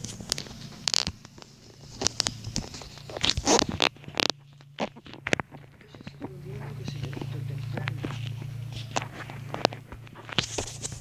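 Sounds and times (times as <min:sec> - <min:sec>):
camera handling rustles and knocks: 0:00.0 - 0:11.0
faint low hum: 0:00.0 - 0:11.0.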